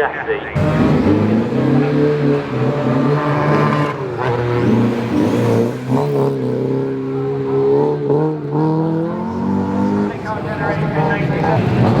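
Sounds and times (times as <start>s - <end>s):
rally car engine revving: 0.5s - 12.0s.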